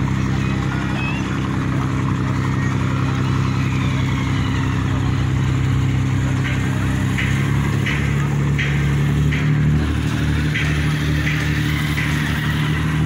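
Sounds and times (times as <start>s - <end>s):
low engine drone: 0.0s - 13.0s
motorcycle passing: 0.0s - 13.0s.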